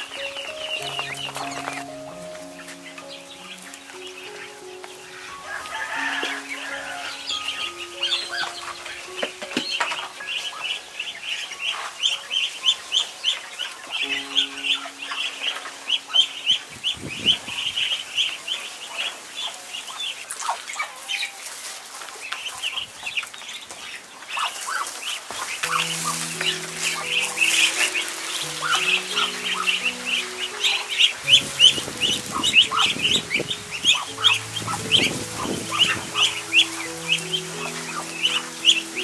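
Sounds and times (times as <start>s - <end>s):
ducklings peeping: 0.0s - 39.0s.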